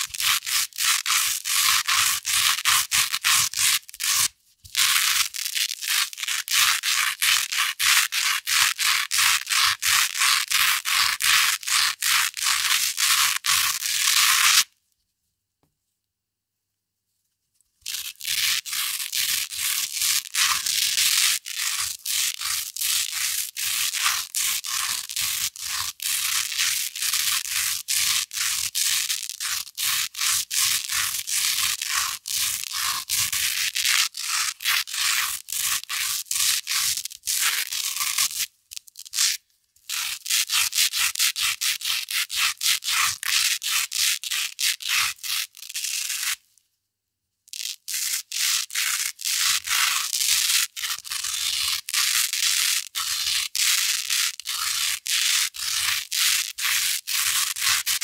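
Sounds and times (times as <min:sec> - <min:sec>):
velcro tape scratching: 0:00.0 - 0:14.8, 0:17.8 - 0:46.5, 0:47.5 - 0:58.0.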